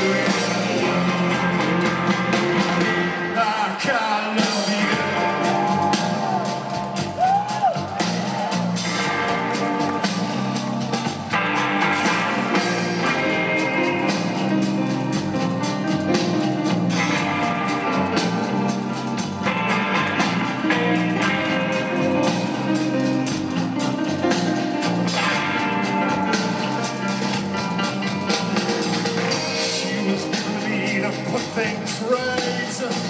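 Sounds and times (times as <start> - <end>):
bass guitar: 0.0 - 33.0
drums: 0.0 - 33.0
electric guitars: 0.0 - 33.0
keyboards: 0.0 - 33.0.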